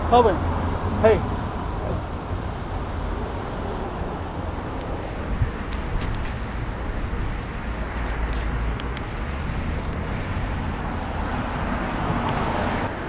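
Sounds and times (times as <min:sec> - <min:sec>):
passing cars rumbling: 0:00.0 - 0:13.0.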